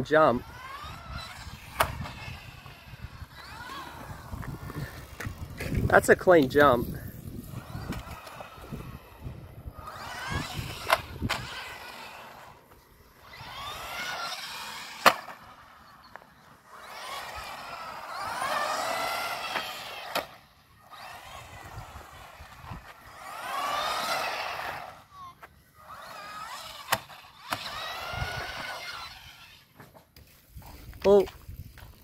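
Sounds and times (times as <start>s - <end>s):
rc car motor whining: 0.0s - 31.2s
small tyres rolling on concrete: 0.4s - 32.0s.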